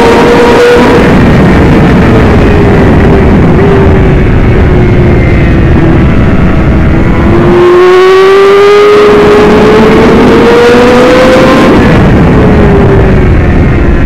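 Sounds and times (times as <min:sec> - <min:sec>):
race bike engine at high revs: 0:00.0 - 0:14.0
wind rush on microphone: 0:00.0 - 0:14.0.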